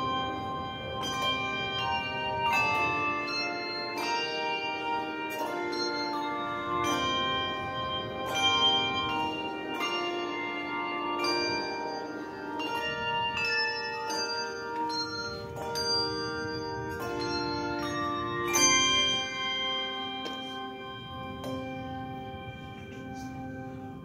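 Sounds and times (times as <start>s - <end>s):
handbells ringing chords: 0.0s - 24.0s.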